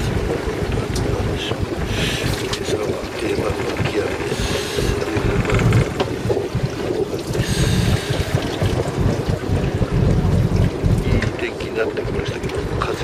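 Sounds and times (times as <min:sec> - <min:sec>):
boat engine rumble: 0:00.0 - 0:13.0
water hissing against hull: 0:00.0 - 0:13.0
wind on microphone: 0:00.0 - 0:13.0.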